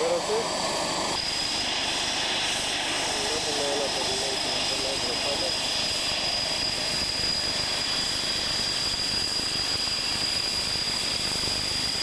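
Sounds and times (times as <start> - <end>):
constant rushing noise: 0.0 - 12.0
jet engines high whine: 0.0 - 12.0.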